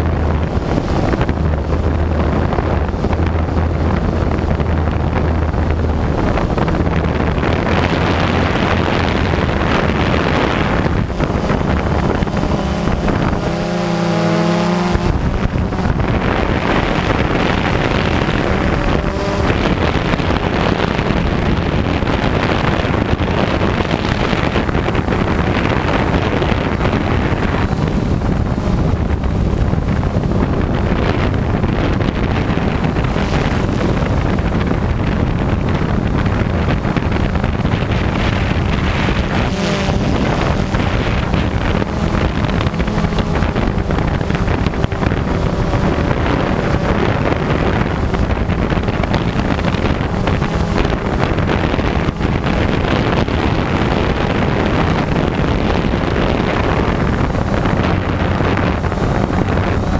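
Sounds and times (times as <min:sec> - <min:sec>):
drone propellers buzzing: 0:00.0 - 0:59.9
faint motor hum: 0:00.0 - 0:59.9
wind on microphone: 0:00.0 - 0:59.9.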